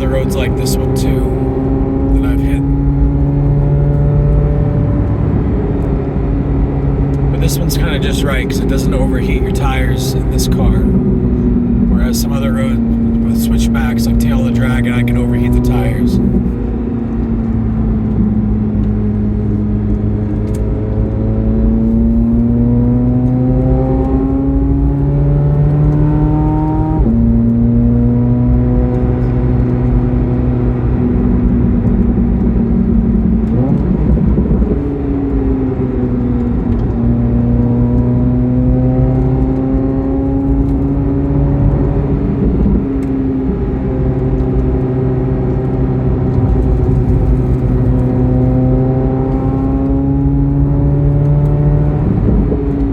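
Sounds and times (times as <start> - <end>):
car engine revving: 0.0 - 52.9
road and tyre noise: 0.0 - 52.9.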